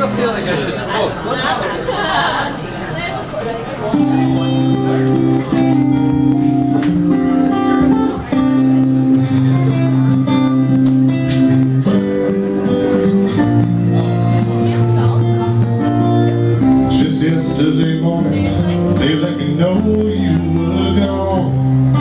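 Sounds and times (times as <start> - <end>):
strummed acoustic guitar: 3.9 - 22.0.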